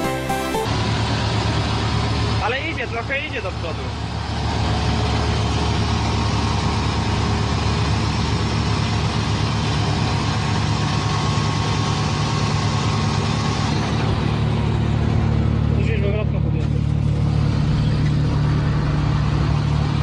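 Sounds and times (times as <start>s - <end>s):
large vehicle engine running: 0.7s - 20.0s.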